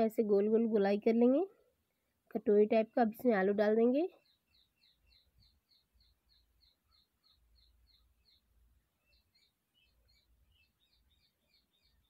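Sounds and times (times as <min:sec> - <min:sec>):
bird chirping faintly: 0:00.0 - 0:12.0.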